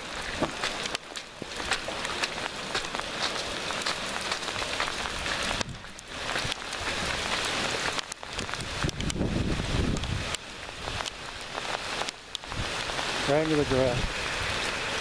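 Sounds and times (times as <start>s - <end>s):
heavy rain and hail: 0.0s - 15.0s.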